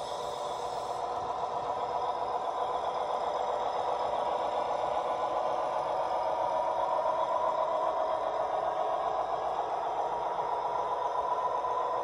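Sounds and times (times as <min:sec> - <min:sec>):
model diesel engine sound: 0:00.0 - 0:12.0.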